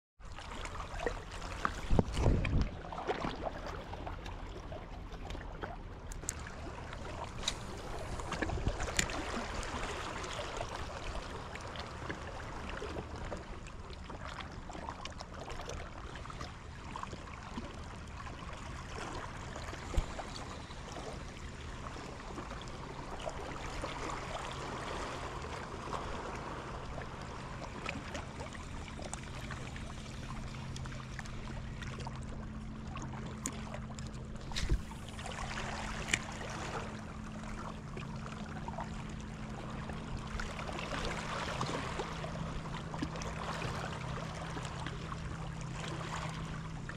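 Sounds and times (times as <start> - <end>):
small waves lapping against rocks: 0.2 - 46.9.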